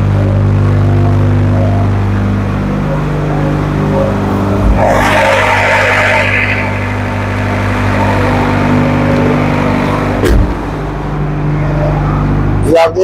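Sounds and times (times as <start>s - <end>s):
diesel generator running: 0.0s - 13.0s.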